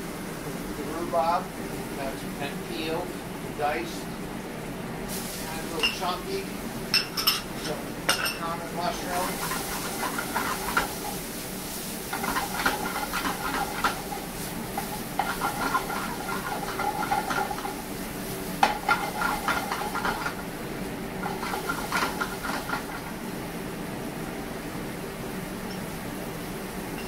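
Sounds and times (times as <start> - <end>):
steady hiss and hum: 0.0 - 27.0
food rattling and sizzling in pan: 4.3 - 27.0.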